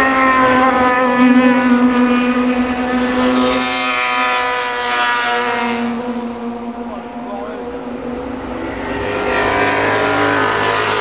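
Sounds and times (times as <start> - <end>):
race car engine: 0.0 - 11.0.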